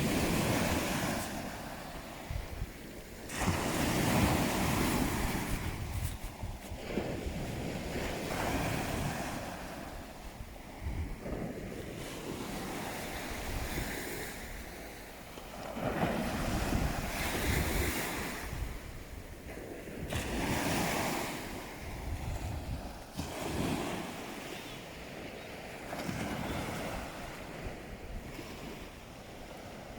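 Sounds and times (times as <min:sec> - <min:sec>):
wind buffeting microphone: 0:00.0 - 0:24.4
sea waves washing ashore: 0:00.0 - 0:29.9.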